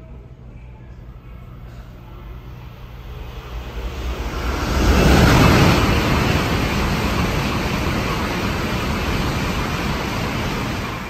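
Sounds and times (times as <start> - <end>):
high-speed train passing: 1.0 - 11.0.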